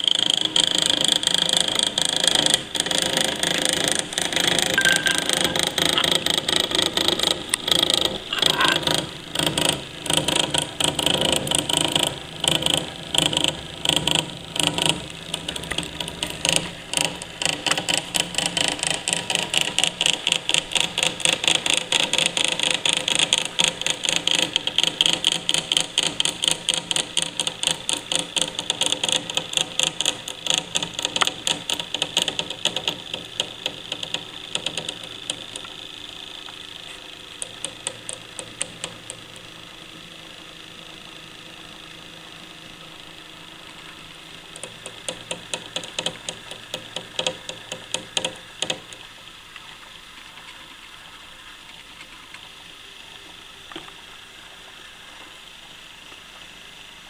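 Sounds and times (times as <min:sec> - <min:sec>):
clockwork motor ticking and whirring: 0:00.0 - 0:57.0.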